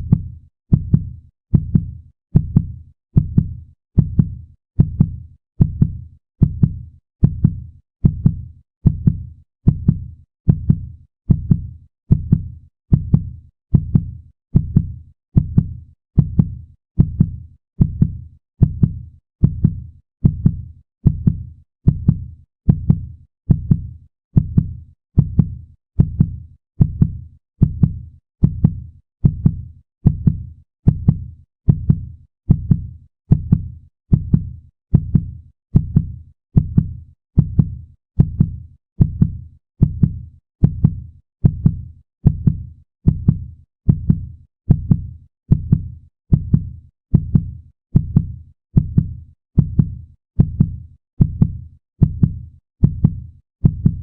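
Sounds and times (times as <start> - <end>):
fast heartbeat: 0.0 - 54.0.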